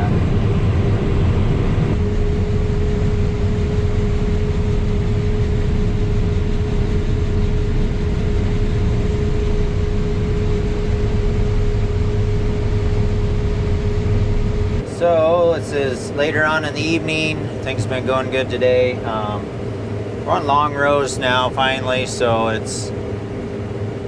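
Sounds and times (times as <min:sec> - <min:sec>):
combine harvester drone: 0:00.0 - 0:24.0
thin steady hum: 0:00.0 - 0:24.0.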